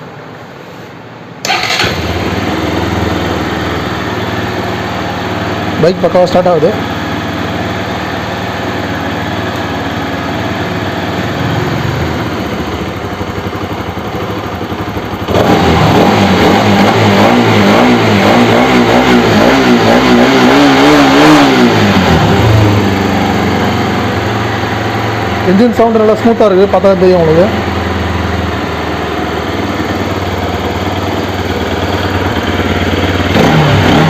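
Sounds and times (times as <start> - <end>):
motorcycle engine idling and revving: 1.4 - 34.0.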